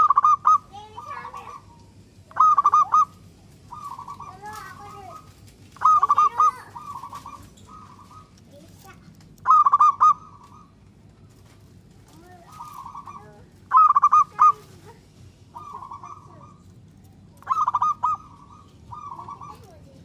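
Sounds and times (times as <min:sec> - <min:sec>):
dove soft cooing: 0:00.0 - 0:08.4, 0:09.4 - 0:10.8, 0:12.2 - 0:20.0
dove stuttering call: 0:00.0 - 0:20.0.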